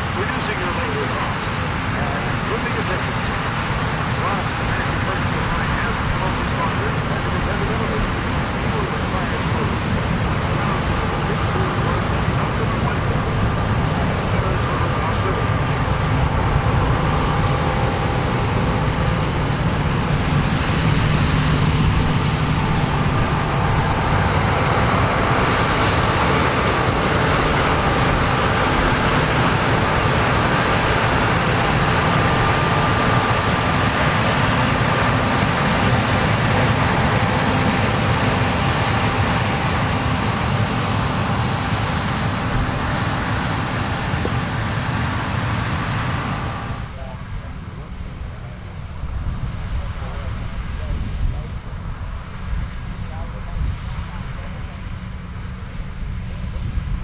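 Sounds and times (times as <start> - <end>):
combine harvester engine drone: 0.0 - 57.0
faint steady whine: 0.0 - 57.0.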